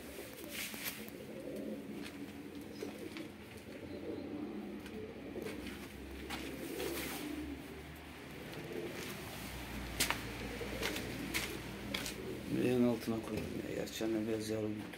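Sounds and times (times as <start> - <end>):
pigeons cooing: 0.0 - 14.6.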